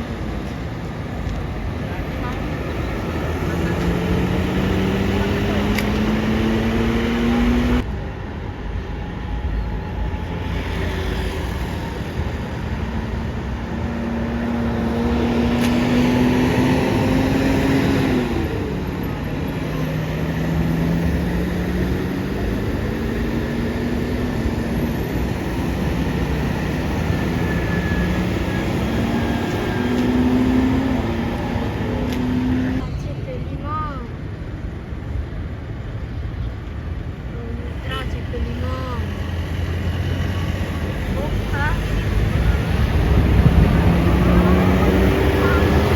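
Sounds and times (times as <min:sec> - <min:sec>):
bus diesel engine accelerating: 0:00.0 - 0:45.9.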